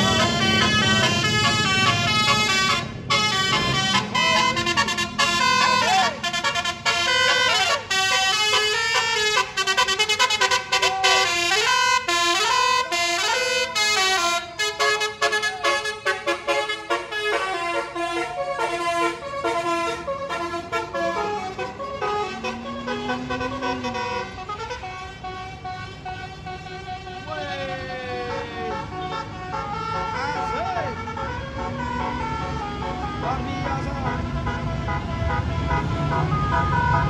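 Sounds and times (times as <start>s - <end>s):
multi-tone bus horn melody: 0.0s - 37.0s.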